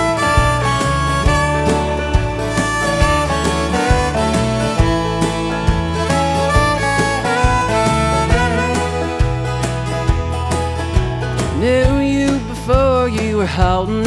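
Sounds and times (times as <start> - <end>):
harmonica melody: 0.0 - 11.9
acoustic guitar: 0.0 - 14.0
bass: 0.0 - 14.0
steady drum beat: 0.0 - 14.0.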